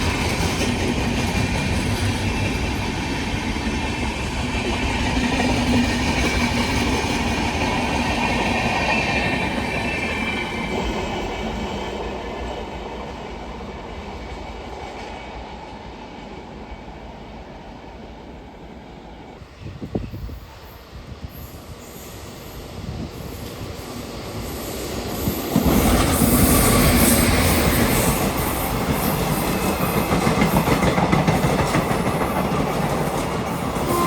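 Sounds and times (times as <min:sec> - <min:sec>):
train passing on tracks: 0:00.0 - 0:34.0.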